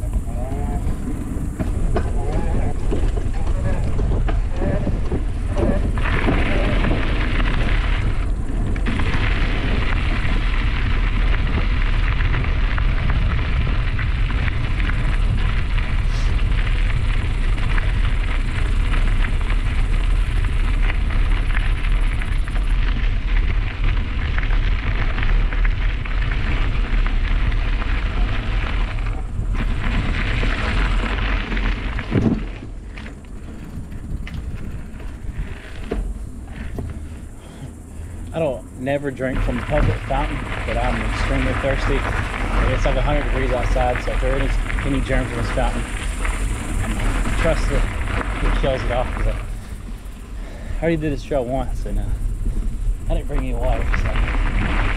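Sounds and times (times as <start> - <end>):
tyres rolling on gravel: 0.0 - 54.9
wind rumbling on microphone: 0.0 - 54.9.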